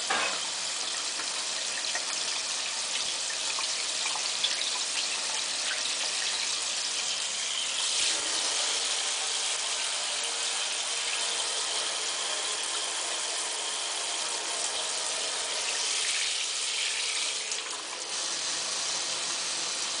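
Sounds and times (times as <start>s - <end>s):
water spraying from shower head: 1.1s - 20.0s.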